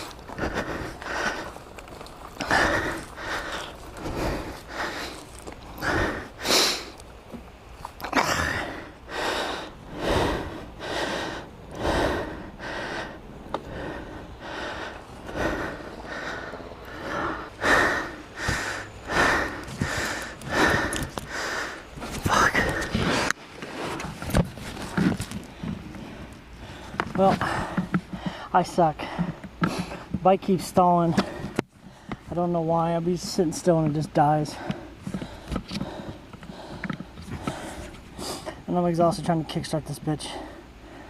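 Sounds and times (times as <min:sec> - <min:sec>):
man panting heavily: 0:00.0 - 0:07.0, 0:08.0 - 0:30.2, 0:30.8 - 0:32.4, 0:33.3 - 0:38.7, 0:40.2 - 0:41.0.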